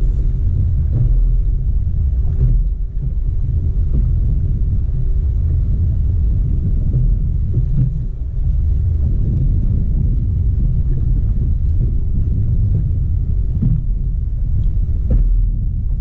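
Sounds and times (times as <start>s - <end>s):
faint engine hum: 0.0s - 16.0s
outboard motor running: 0.0s - 16.0s
wind rumble on microphone: 0.0s - 16.0s.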